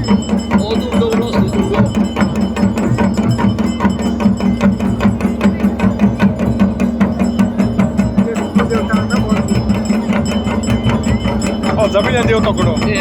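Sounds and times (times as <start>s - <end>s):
low held tone: 0.0s - 12.9s
drums beaten fast: 0.0s - 13.0s.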